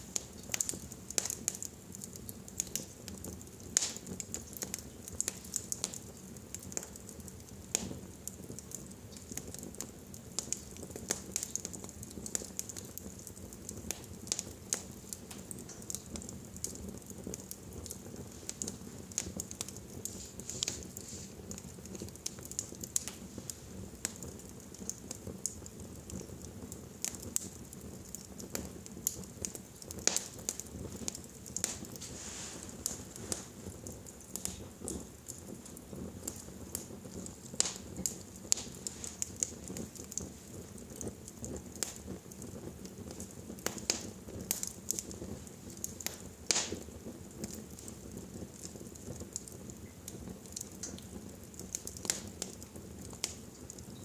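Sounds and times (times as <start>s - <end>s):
fire crackling: 0.0s - 54.0s
sharp pops and snaps of fire: 0.0s - 54.0s.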